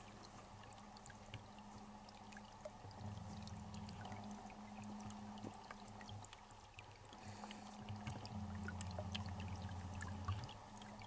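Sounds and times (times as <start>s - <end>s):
low steady hum: 0.0s - 11.0s
stream trickling under ice: 0.0s - 11.0s
tiny drips and clicks: 0.0s - 11.0s.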